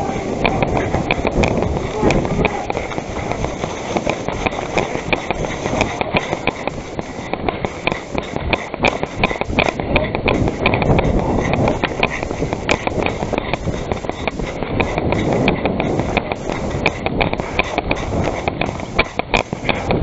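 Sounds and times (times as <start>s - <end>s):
footsteps: 0.0s - 20.0s
rustling: 0.0s - 20.0s
sharp clicks: 0.0s - 20.0s.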